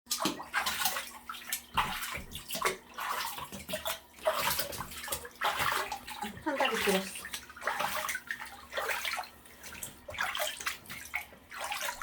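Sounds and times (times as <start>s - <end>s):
water splashing in a tub: 0.1s - 12.0s.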